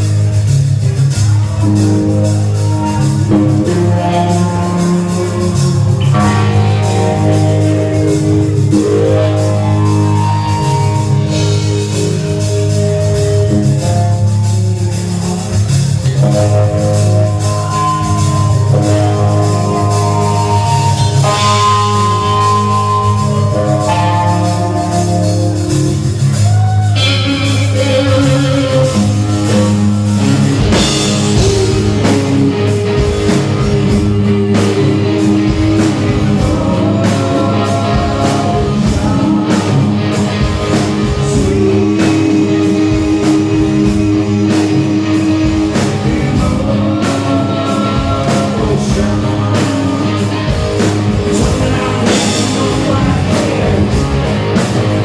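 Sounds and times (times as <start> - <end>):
drums: 0.0 - 55.0
rock band playing: 0.0 - 55.0
person singing: 1.0 - 55.0.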